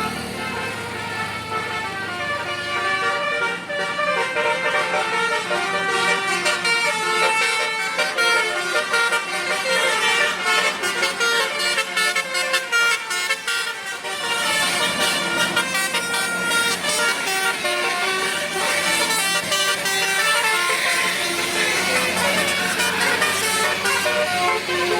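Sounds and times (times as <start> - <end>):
bus horn melody: 0.0 - 24.9.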